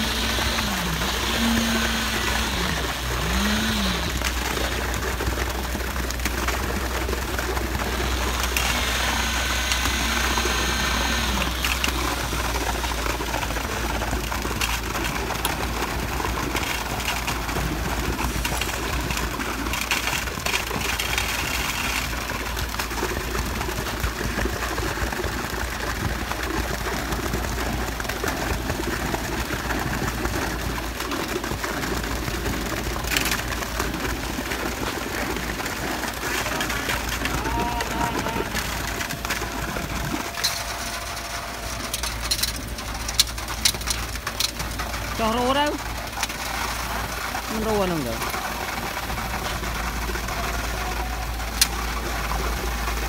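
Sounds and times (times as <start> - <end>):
diesel engine running: 0.0 - 53.0
wet concrete pouring: 0.0 - 53.0.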